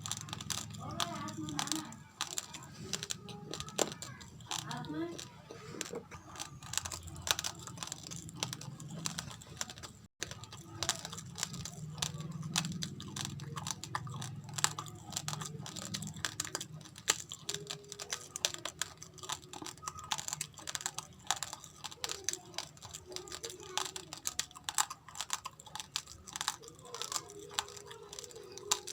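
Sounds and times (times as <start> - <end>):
chewing raw rice crunches: 0.0 - 28.9.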